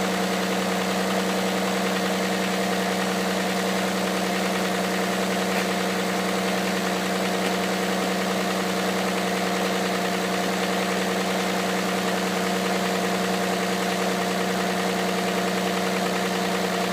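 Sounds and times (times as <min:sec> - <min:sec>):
car engine idling with knock: 0:00.0 - 0:16.9.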